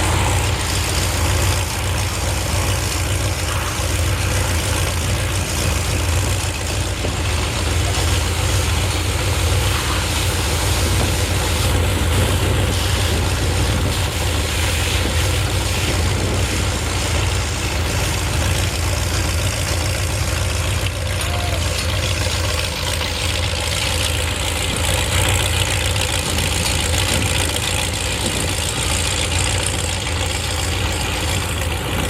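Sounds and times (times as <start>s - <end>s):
truck engine humming: 0.0s - 32.0s
water spraying hiss: 0.0s - 32.0s.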